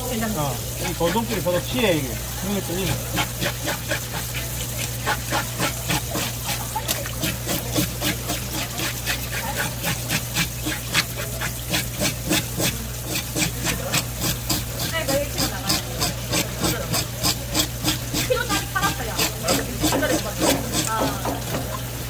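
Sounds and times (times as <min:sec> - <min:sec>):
blade scraping fish scales: 0:00.2 - 0:21.8.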